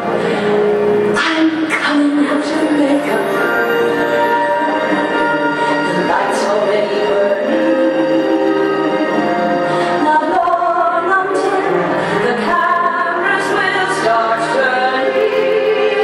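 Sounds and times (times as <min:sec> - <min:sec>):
orchestral music: 0:00.0 - 0:16.0
woman singing operatically: 0:01.2 - 0:16.0.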